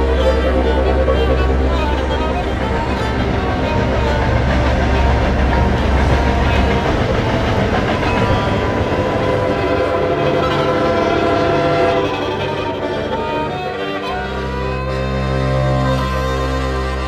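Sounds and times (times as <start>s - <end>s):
wheels clacking over track: 0.0s - 14.9s
freight train rumbling on rails: 0.0s - 17.0s.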